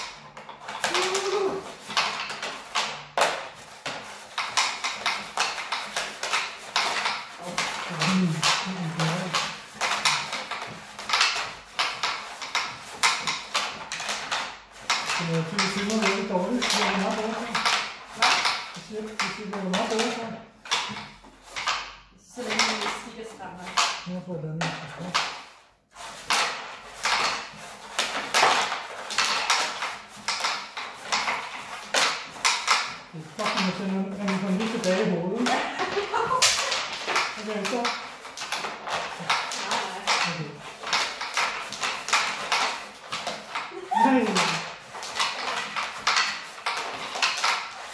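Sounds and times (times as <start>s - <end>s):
wooden pucks clacking on board: 0.0s - 47.9s.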